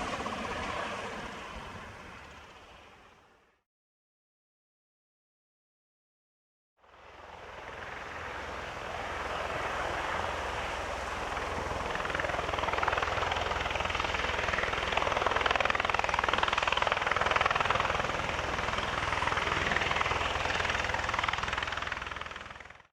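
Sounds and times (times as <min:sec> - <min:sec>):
helicopter running: 0:00.0 - 0:03.4, 0:06.8 - 0:22.9.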